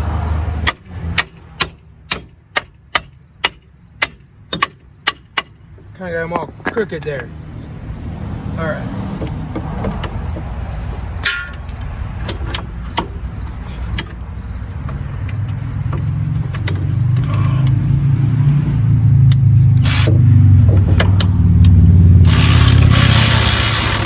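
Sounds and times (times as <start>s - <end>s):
low engine hum: 0.0s - 1.9s, 5.7s - 24.0s.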